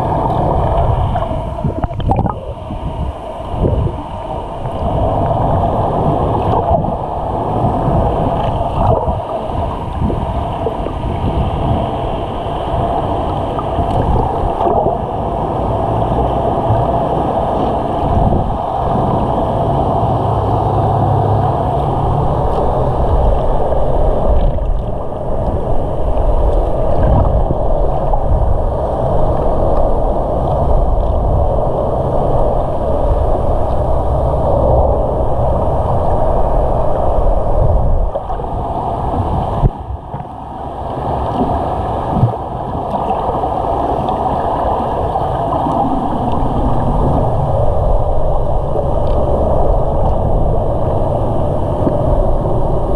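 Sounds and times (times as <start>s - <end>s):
faint steady hum: 0.0s - 52.9s
muffled underwater water rush: 0.0s - 52.9s.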